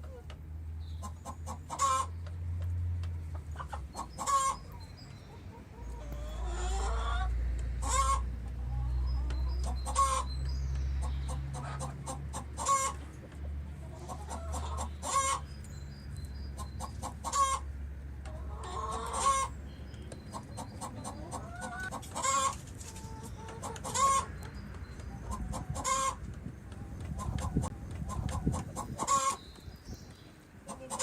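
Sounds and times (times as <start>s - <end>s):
chickens clucking: 0.0s - 15.8s, 16.4s - 31.0s.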